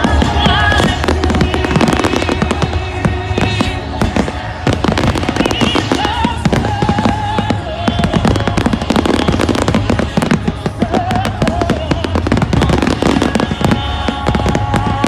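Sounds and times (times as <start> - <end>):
fireworks bangs and crackles: 0.0 - 15.0
loud music over sound system: 0.0 - 15.0.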